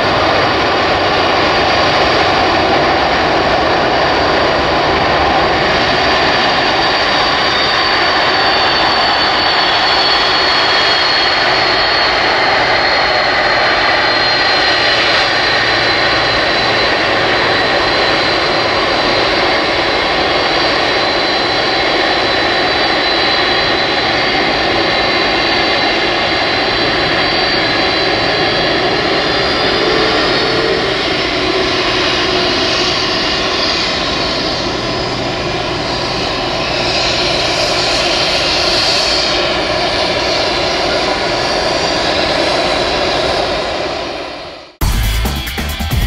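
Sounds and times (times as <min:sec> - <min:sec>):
jet engines running: 0:00.0 - 0:46.0.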